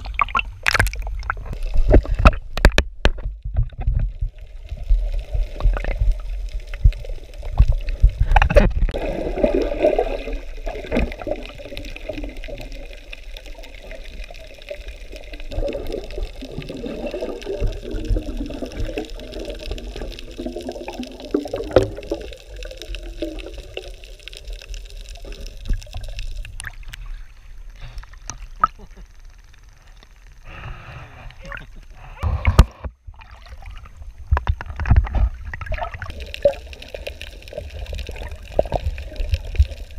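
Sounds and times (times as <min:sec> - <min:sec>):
water sloshing and gurgling: 0:00.0 - 0:28.8, 0:31.1 - 0:39.9.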